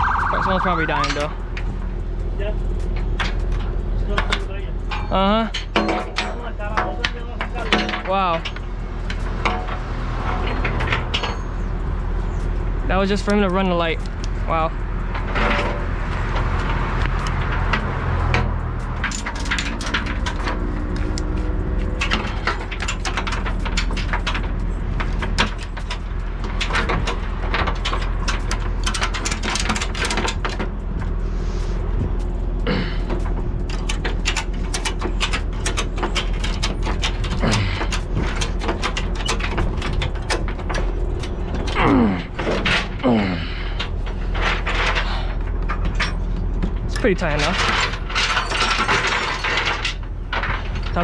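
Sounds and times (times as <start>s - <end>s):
steady low rumble: 0.0s - 51.0s
metal ratchet clicks: 0.8s - 43.0s.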